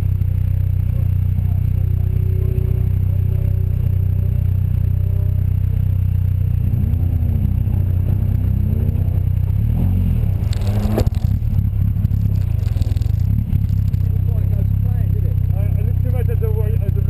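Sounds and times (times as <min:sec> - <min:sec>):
engine throttle blips: 0:00.0 - 0:17.0
sports car engine idling: 0:00.0 - 0:17.0.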